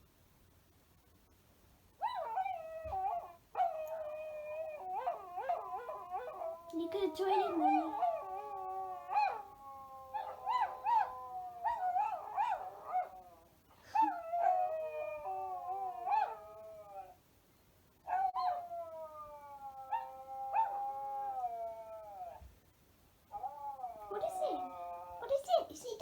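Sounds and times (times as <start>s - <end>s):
dogs howling in chorus: 2.0s - 17.2s, 18.1s - 22.4s, 23.3s - 25.4s.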